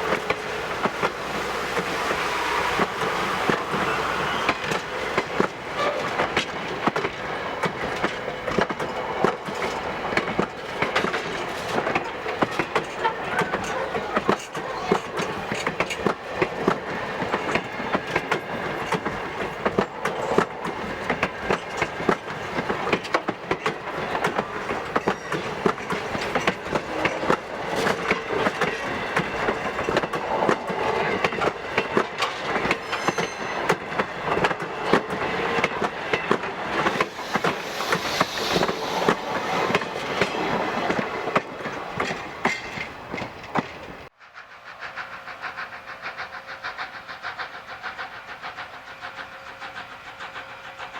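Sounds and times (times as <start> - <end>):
train rumble: 0.0 - 50.9
train wheels clicking over rail joints: 0.0 - 50.9.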